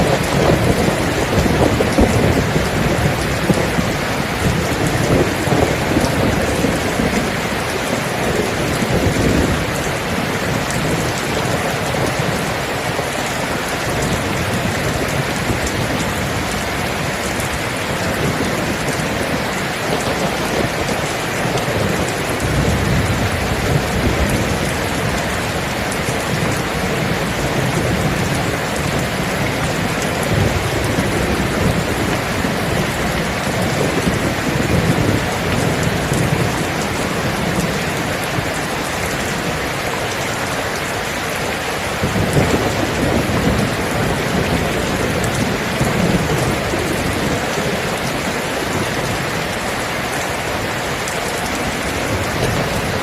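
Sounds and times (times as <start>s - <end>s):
low rolling thunder: 0.0s - 40.9s, 41.9s - 50.0s
rain falling: 0.0s - 53.0s.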